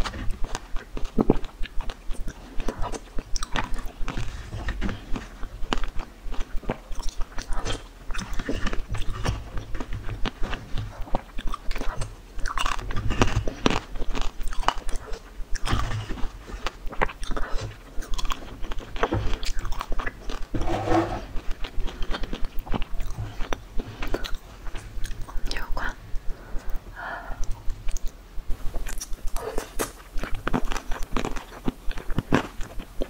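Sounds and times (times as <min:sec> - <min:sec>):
wet chewing and lip smacks: 0:00.3 - 0:04.2, 0:04.9 - 0:20.5, 0:21.4 - 0:26.0, 0:27.4 - 0:33.0.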